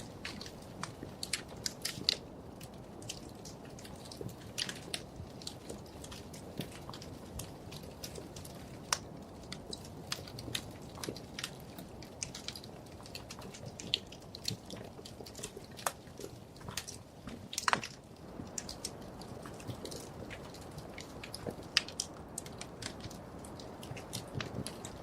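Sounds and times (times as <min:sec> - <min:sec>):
low rumble of burning: 0:00.0 - 0:25.0
wood fire crackling and popping: 0:00.0 - 0:25.0.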